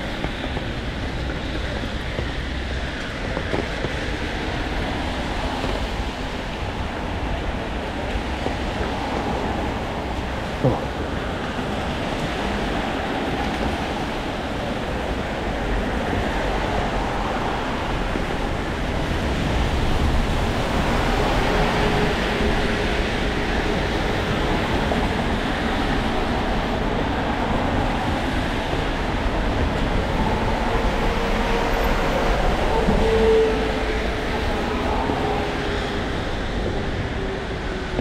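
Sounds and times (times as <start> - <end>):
rain hissing on street: 0.0 - 33.0.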